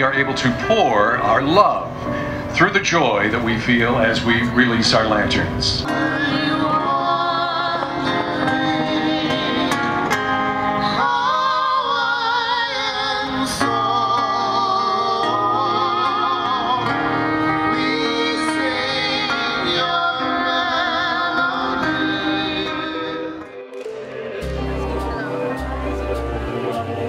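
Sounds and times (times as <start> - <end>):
instrumental accompaniment: 0.0 - 27.0.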